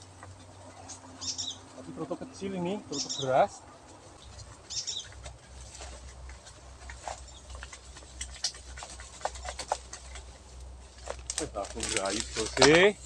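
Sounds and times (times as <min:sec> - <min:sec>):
leaves and twigs rustling: 0:00.0 - 0:13.0.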